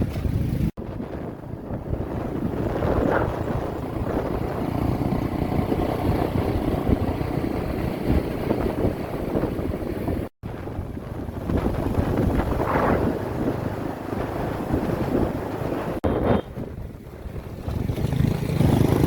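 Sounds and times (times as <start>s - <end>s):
motorbike rumble: 0.0s - 19.0s
traffic: 0.0s - 19.0s
wind buffeting microphone: 0.0s - 19.0s.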